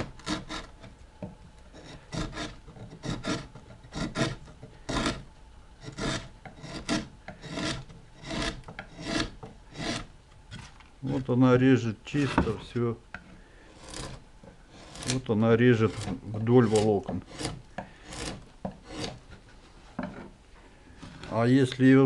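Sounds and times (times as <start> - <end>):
chisel scraping wood: 0.0 - 1.0, 1.6 - 11.3, 12.2 - 20.4.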